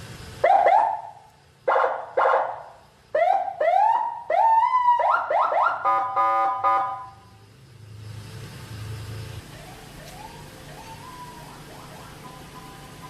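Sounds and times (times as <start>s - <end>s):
electronic siren cycling tones: 0.4s - 13.0s.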